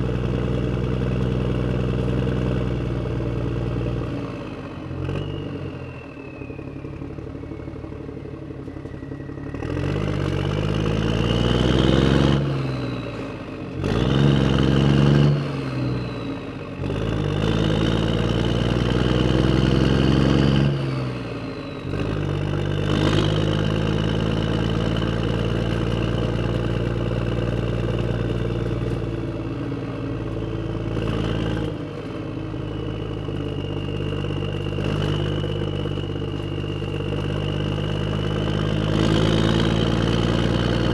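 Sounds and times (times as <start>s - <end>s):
vehicle engine accelerating: 0.0s - 40.9s.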